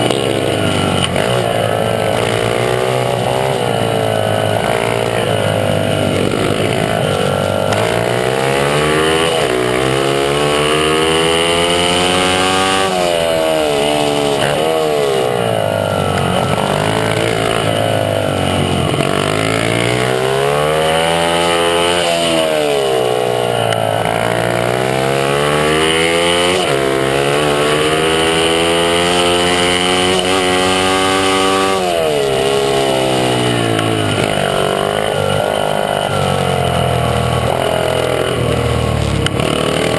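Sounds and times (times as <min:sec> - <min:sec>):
small motorcycle engine revving: 0:00.0 - 0:39.9.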